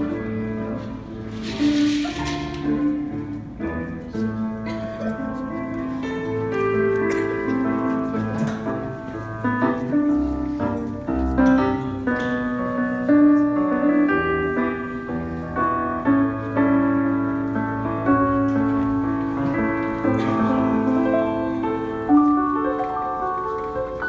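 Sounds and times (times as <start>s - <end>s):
slow piano chords and melody: 0.0s - 24.0s.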